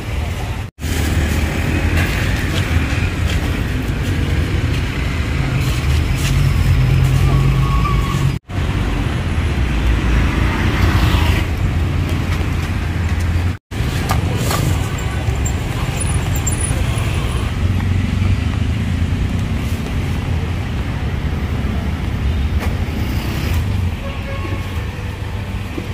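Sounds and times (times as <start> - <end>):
road traffic rumble: 0.0 - 25.9.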